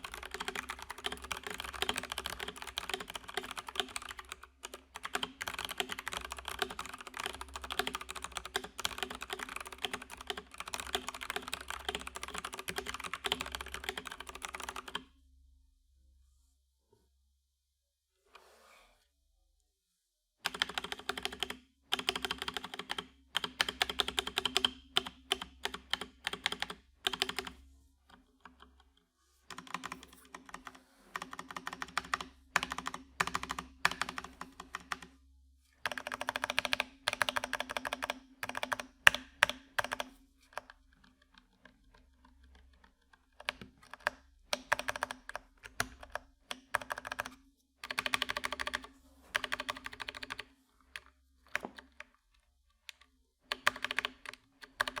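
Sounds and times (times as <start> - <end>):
mechanical keyboard typing: 0.0 - 15.0, 20.5 - 27.6, 29.5 - 35.1, 35.8 - 52.2, 52.8 - 55.0.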